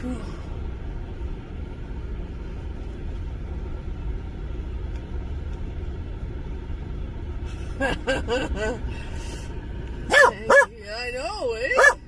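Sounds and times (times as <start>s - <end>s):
vehicle engine low rumble: 0.0s - 12.0s.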